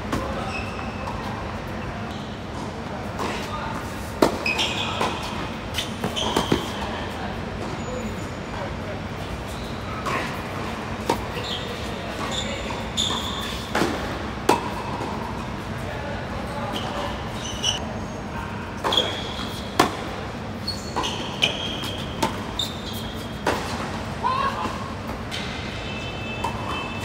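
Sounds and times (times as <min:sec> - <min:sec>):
shoes squeaking on court: 0:00.2 - 0:15.6, 0:16.4 - 0:18.2, 0:18.8 - 0:24.0, 0:25.3 - 0:27.0.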